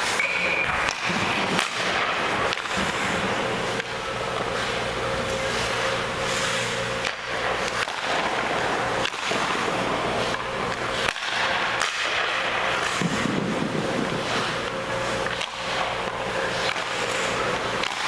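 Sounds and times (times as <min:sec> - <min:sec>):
pucks cracking: 0:00.0 - 0:18.0
skate blades scraping ice: 0:00.0 - 0:18.0.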